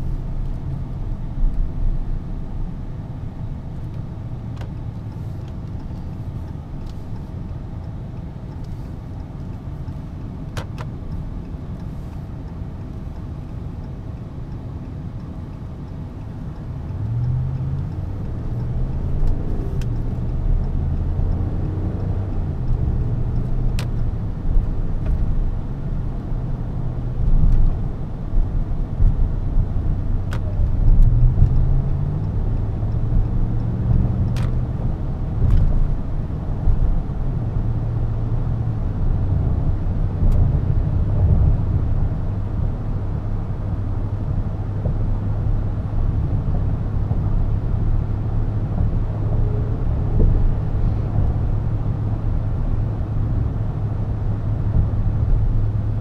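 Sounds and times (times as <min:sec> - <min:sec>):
road rumble: 0:00.0 - 0:56.0.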